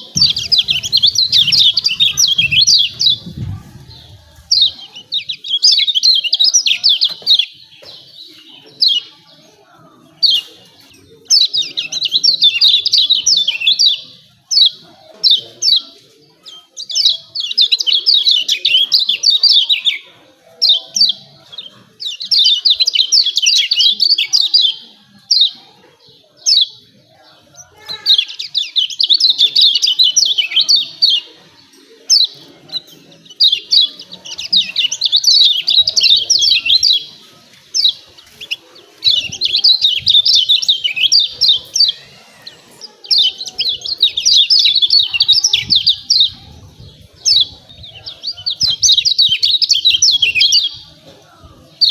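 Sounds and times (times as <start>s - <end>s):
bird chirping calls: 0.0s - 51.1s.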